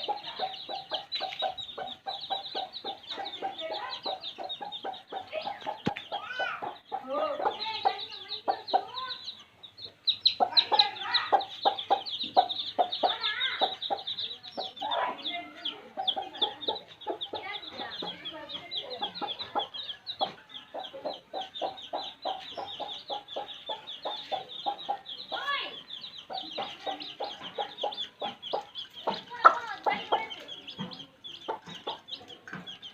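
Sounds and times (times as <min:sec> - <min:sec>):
baby chicks peeping: 0:00.0 - 0:32.9
hen clucking: 0:00.0 - 0:32.9.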